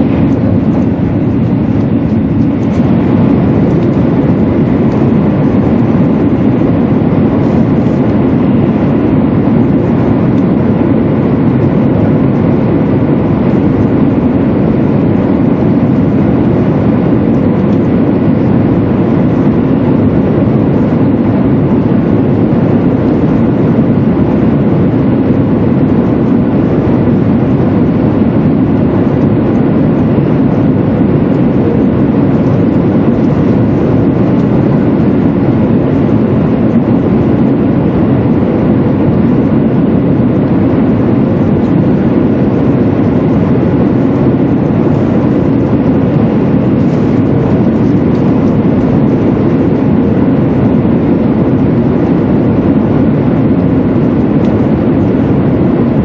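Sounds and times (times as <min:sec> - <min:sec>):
train rumble in tunnel: 0:00.0 - 0:56.0.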